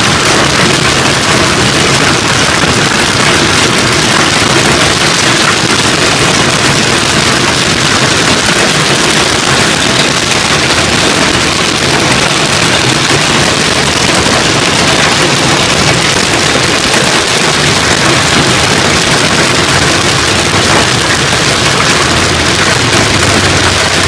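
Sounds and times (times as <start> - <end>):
hail pelting down: 0.0 - 24.0.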